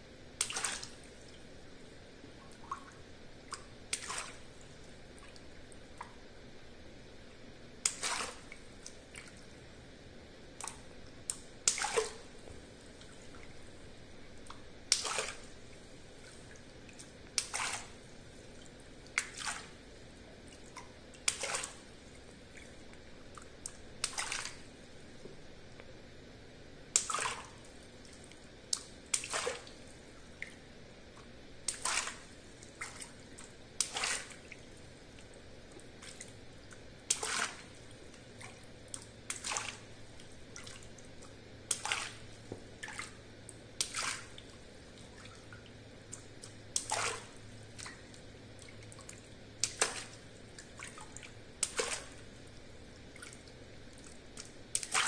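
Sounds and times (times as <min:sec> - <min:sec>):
water splashing and dripping: 0:00.4 - 0:01.5, 0:02.4 - 0:06.2, 0:07.8 - 0:09.6, 0:10.6 - 0:19.8, 0:20.4 - 0:24.8, 0:26.9 - 0:55.0.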